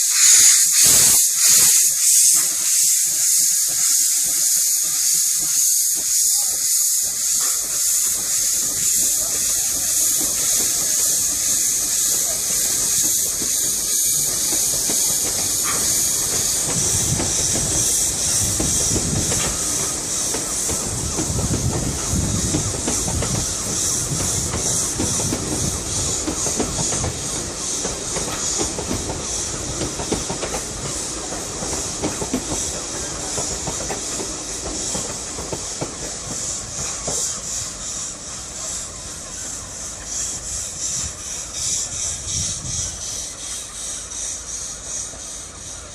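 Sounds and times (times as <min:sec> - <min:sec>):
steam hissing with rhythmic beats: 0:00.0 - 0:45.9
train rumbling past: 0:00.0 - 0:45.9.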